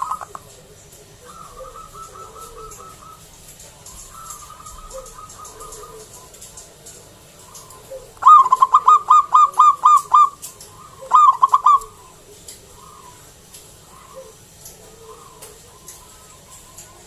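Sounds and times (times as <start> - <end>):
dove cooing: 0.0 - 17.0
faint high chirping: 0.0 - 17.0.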